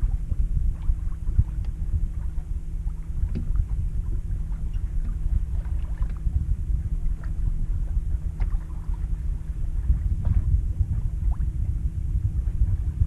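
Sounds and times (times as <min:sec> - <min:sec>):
water splashing on hull: 0:00.0 - 0:13.0
wind rumbling on microphone: 0:00.0 - 0:13.0.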